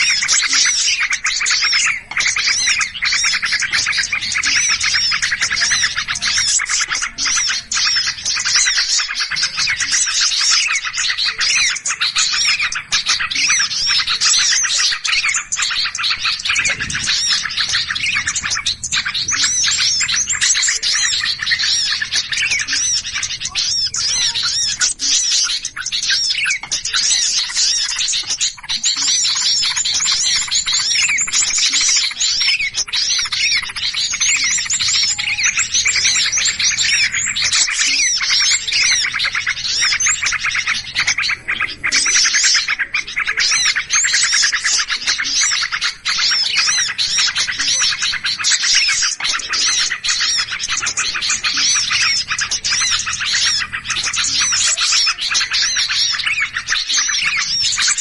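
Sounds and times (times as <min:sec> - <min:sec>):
many small birds chirping: 0:00.0 - 0:58.0.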